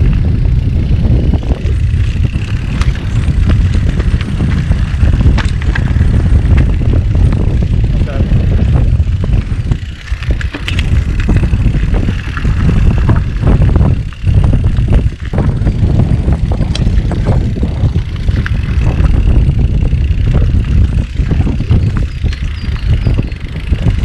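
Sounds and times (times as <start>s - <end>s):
bike rattling and knocking: 0.0s - 24.0s
wind on microphone: 0.0s - 24.0s.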